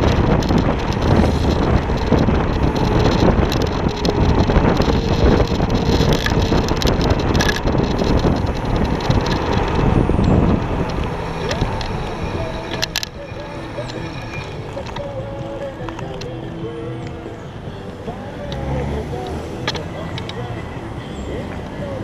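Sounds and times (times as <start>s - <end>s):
wind buffeting microphone: 0.0s - 18.2s
scooter tyre rumble: 0.0s - 22.0s.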